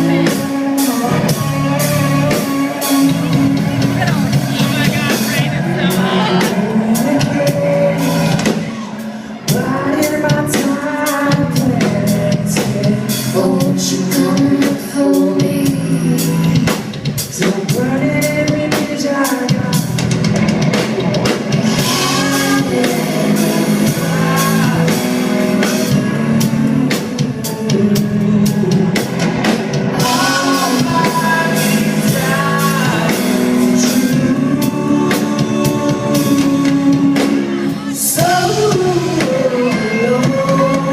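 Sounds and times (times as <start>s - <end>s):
rock song with singer: 0.0s - 40.9s.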